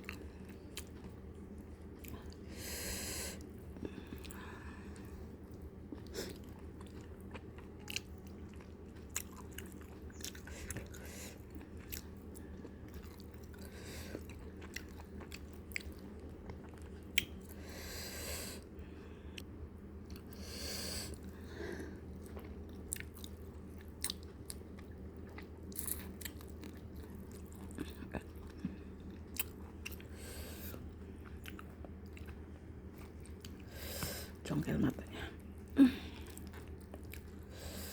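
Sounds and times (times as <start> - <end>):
chewing and crunching: 0.0 - 2.5, 3.4 - 17.6, 21.1 - 34.1, 34.9 - 37.9
steady low hum: 0.0 - 37.9.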